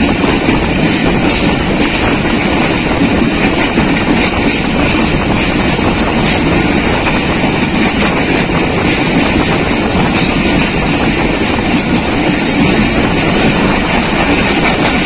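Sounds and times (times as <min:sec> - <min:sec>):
train rattle: 0:00.0 - 0:15.0
train wheels rolling on track: 0:00.0 - 0:15.0.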